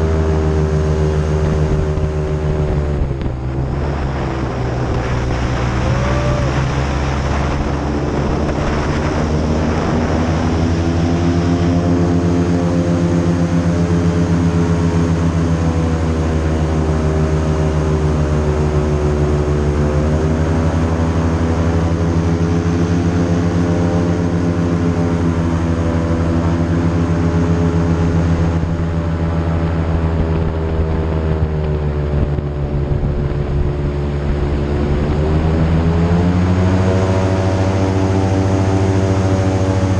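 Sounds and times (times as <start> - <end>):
airboat engine drone: 0.0 - 39.9.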